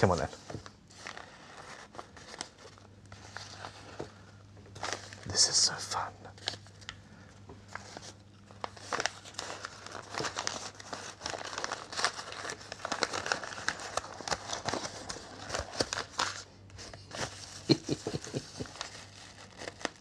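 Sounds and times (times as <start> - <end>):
paper rustling and crinkling: 0.0 - 7.0, 7.6 - 20.0
faint low hum: 0.0 - 20.0.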